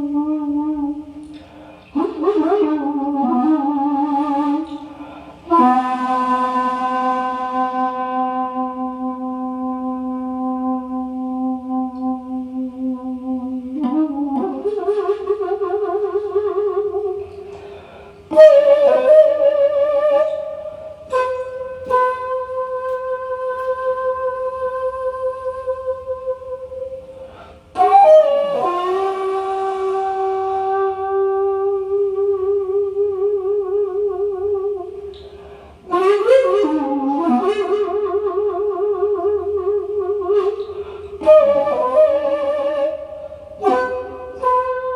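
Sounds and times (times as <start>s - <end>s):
bamboo flute slow melody: 0.0s - 44.9s.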